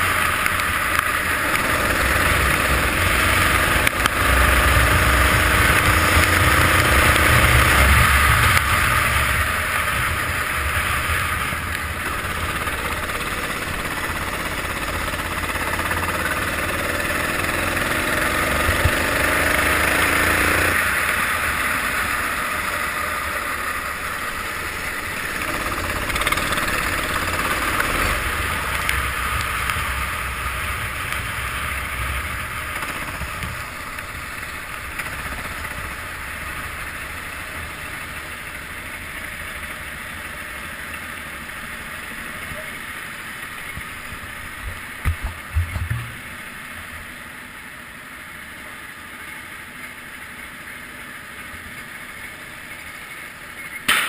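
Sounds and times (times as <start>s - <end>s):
go-kart engine running: 0.0s - 54.0s
road noise on wet track: 0.0s - 54.0s.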